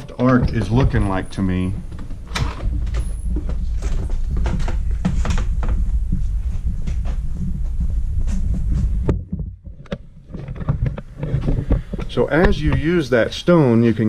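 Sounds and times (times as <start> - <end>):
irregular knocks and clicks: 0.0 - 13.0
footsteps: 0.0 - 14.0
steady low rumble: 0.0 - 14.0.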